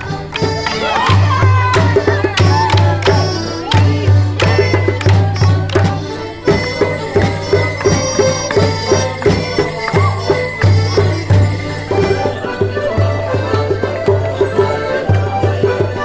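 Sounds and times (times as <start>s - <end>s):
drum keeping steady beat: 0.0s - 16.0s
folk dance tune on accordions: 0.0s - 16.0s.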